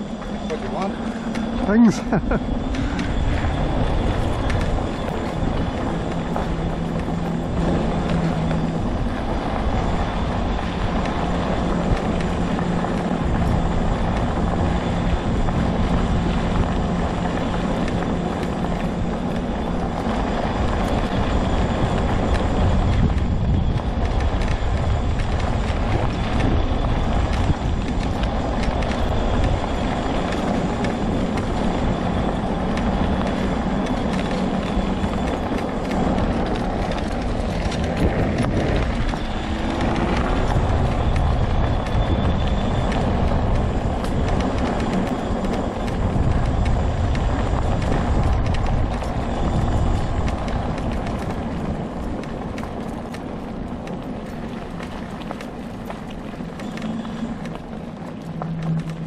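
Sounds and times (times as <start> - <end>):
low ride rumble: 0.0 - 59.0
motor hum: 0.0 - 59.0.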